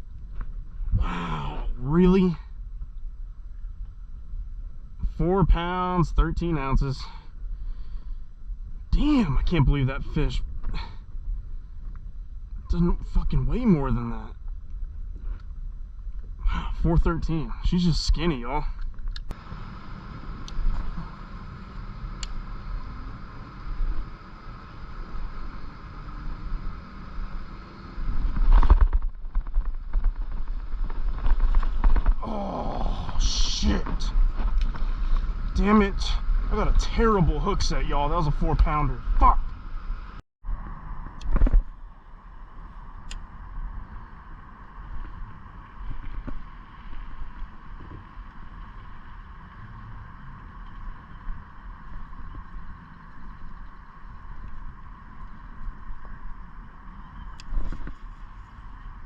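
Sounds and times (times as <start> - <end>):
faint constant hum: 0.0 - 59.0
wind rumble on microphone: 0.0 - 59.0.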